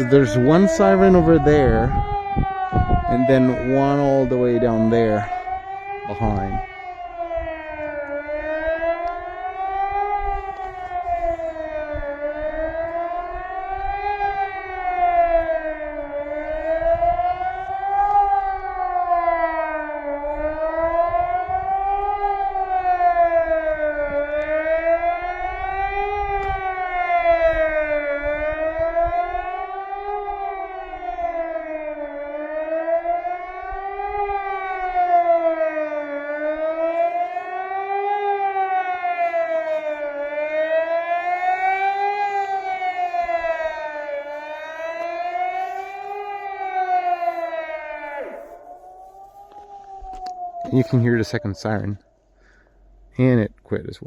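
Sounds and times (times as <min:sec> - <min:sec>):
electronic siren wailing: 0:00.0 - 0:52.4.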